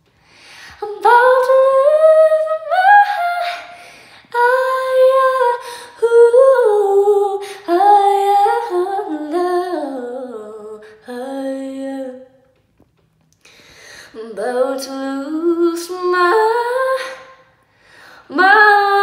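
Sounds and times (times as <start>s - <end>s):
woman singing unaccompanied: 0.8s - 12.4s, 14.2s - 17.4s, 18.3s - 19.0s.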